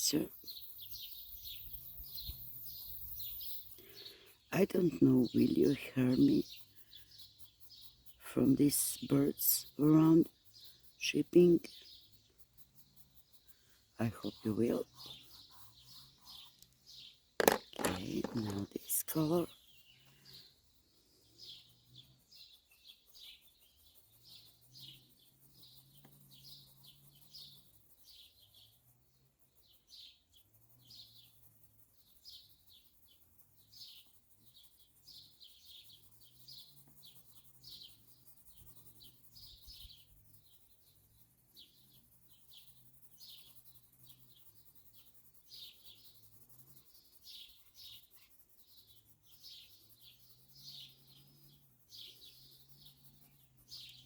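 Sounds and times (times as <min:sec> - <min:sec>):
birds chirping: 0:00.0 - 0:28.8, 0:32.2 - 0:54.0.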